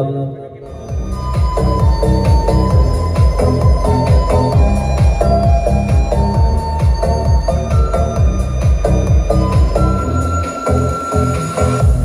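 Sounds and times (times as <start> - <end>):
loud electronic dance music: 0.6 - 12.0.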